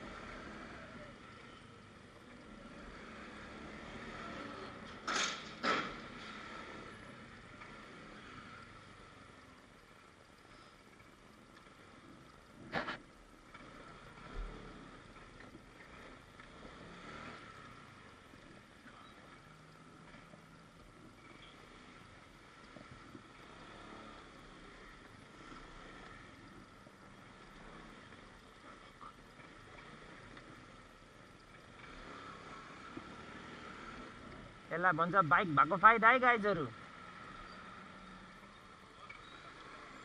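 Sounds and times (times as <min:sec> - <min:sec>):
faint wind: 0:00.0 - 0:40.0
street noise: 0:00.0 - 0:40.0.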